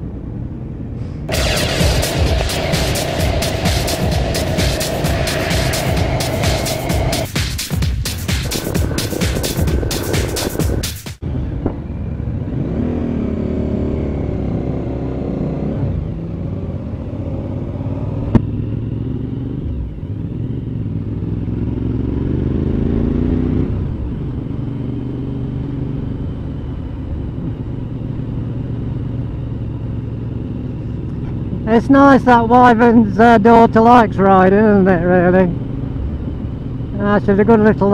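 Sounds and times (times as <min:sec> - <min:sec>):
wind and road noise: 0:00.0 - 0:37.9
motorcycle engine accelerating: 0:01.3 - 0:37.9.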